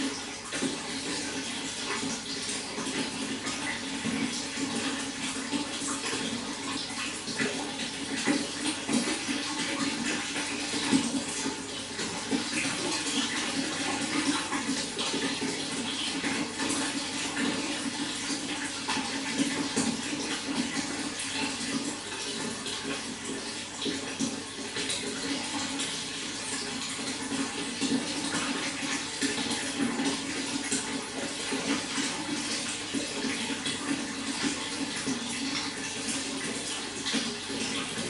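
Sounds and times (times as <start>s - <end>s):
running water splashing: 0.0s - 38.0s.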